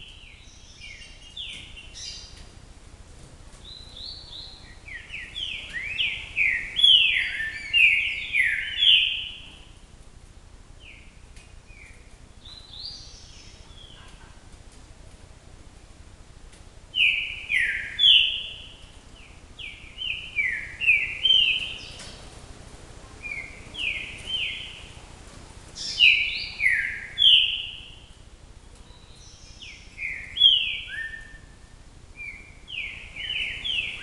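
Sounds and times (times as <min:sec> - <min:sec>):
songbird singing: 0:00.0 - 0:02.8, 0:03.5 - 0:10.0, 0:10.7 - 0:14.7, 0:15.6 - 0:34.0.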